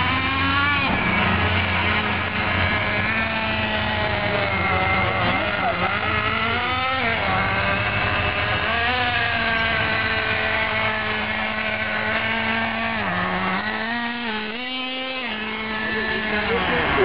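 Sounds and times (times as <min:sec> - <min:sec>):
rc truck engine whining: 0:00.0 - 0:17.0.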